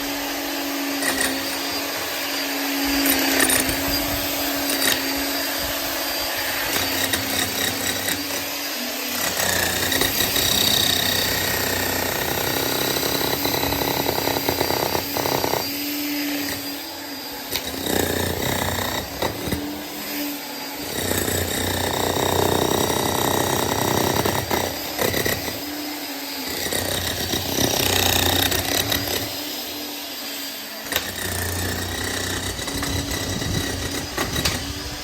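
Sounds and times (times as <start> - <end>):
jackhammer hammering: 0.0 - 20.0, 20.8 - 25.8, 26.4 - 29.5, 30.8 - 35.0.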